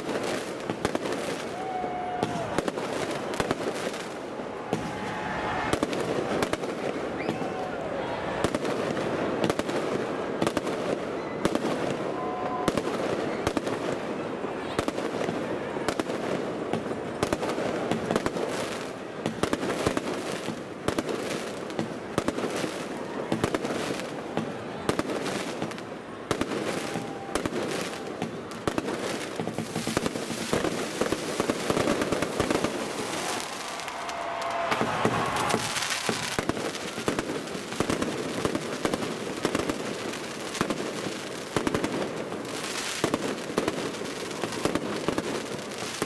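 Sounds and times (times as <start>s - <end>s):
fireworks bursting: 0.0s - 46.0s.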